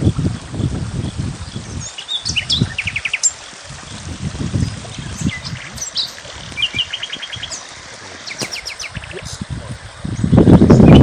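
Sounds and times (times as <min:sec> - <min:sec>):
small songbirds chirping: 0:00.3 - 0:11.0.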